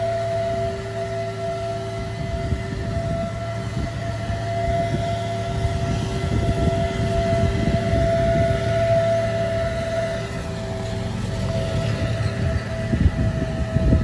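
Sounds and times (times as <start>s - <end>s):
diesel truck engine rumbling: 0.0s - 14.0s
high whine: 0.0s - 14.0s.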